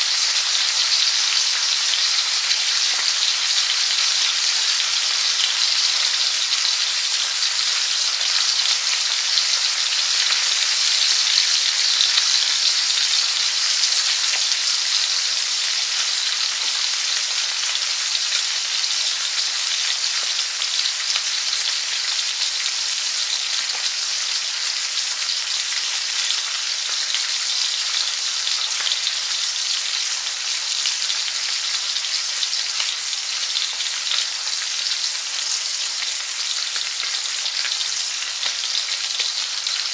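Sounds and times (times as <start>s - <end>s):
food frying sizzle: 0.0s - 39.9s.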